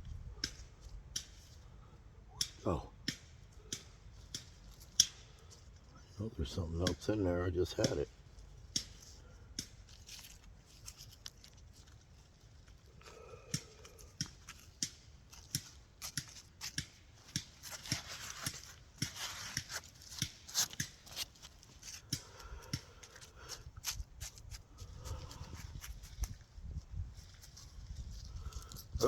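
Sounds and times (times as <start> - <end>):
digging in wet soil: 0.3 - 29.0.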